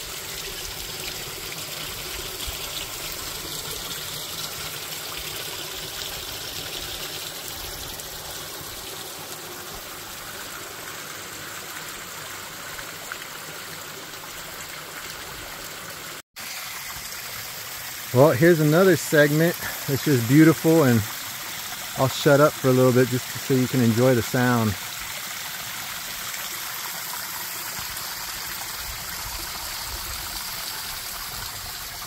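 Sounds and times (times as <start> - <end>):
creek water running over stones: 0.0 - 32.0.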